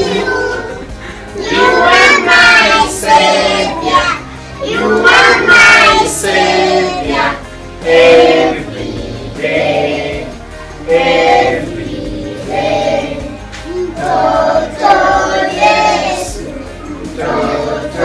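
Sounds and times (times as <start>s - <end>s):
children singing together: 0.0s - 18.0s.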